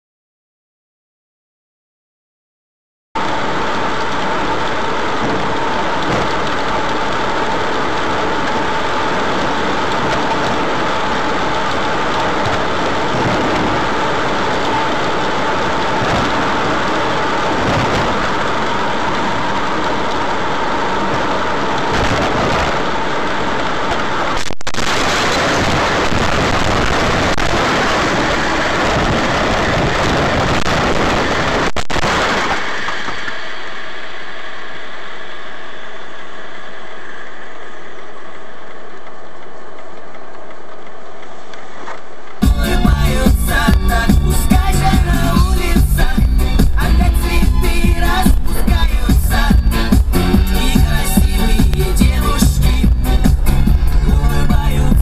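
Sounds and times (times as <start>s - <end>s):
car road and wind noise: 3.2s - 55.0s.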